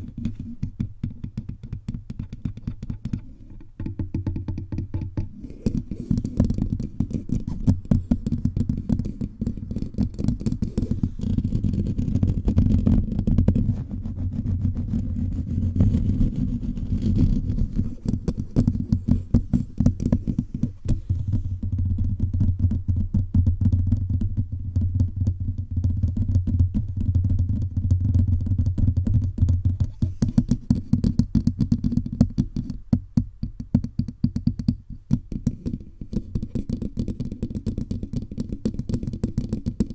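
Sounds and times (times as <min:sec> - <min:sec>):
fingers tapping on microphone: 0:00.0 - 0:39.9.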